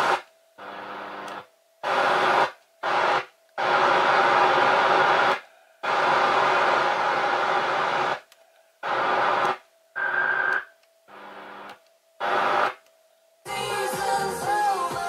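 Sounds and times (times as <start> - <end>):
radio static hiss: 0.0 - 13.5.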